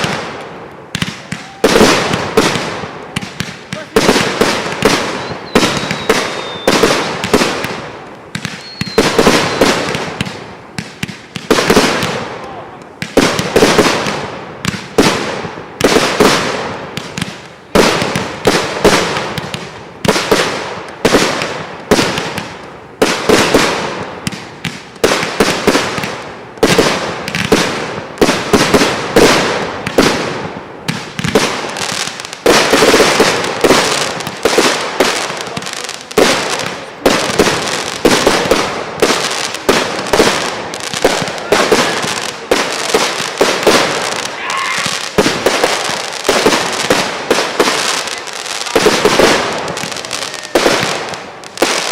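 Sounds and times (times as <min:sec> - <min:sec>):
aerial fireworks bursting: 0:00.0 - 0:51.9.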